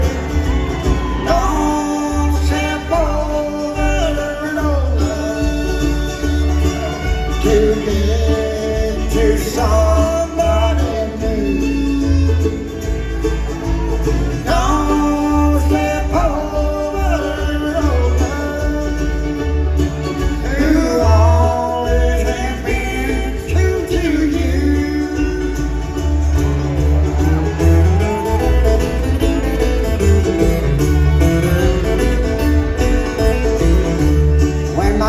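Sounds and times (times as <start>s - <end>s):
acoustic guitar: 0.0s - 35.0s
banjo picking: 0.0s - 35.0s
bluegrass band singing: 0.0s - 35.0s.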